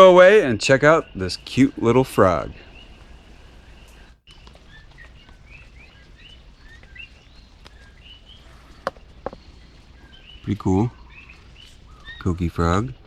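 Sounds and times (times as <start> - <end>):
faint steady hiss: 0.0 - 13.0
frogs calling co-qui: 0.0 - 13.0.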